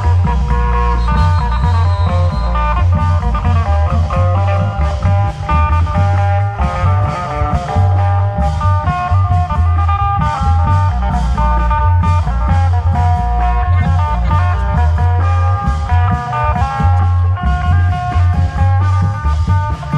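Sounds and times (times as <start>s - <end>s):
heavy continuous drumming: 0.0s - 19.9s.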